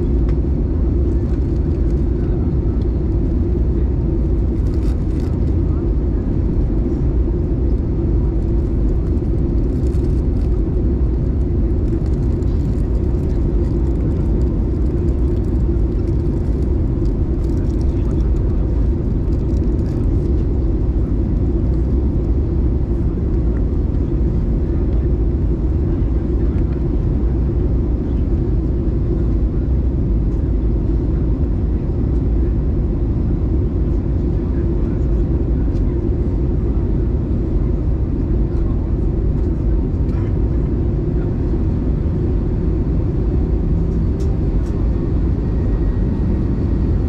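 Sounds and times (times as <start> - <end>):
airliner cabin engine rumble: 0.0 - 47.0.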